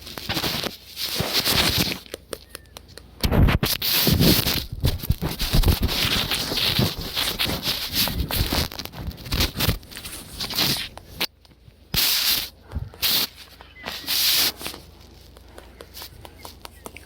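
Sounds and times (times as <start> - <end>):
phone handling scratching on clothing: 0.0 - 2.2, 3.2 - 11.3, 12.0 - 17.0.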